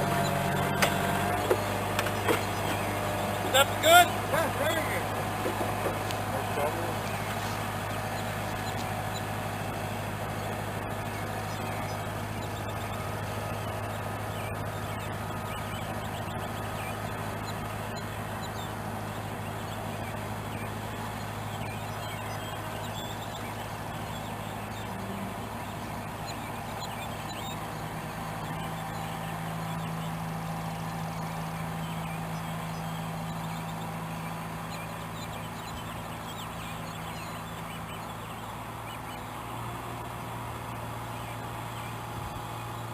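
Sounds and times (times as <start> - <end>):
tractor engine humming: 0.0 - 42.9.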